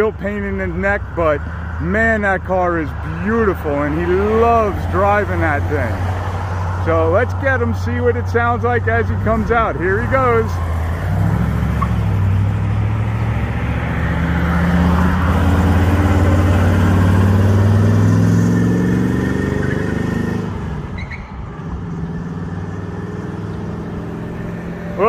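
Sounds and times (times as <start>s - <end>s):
car engine accelerating: 2.7s - 25.0s.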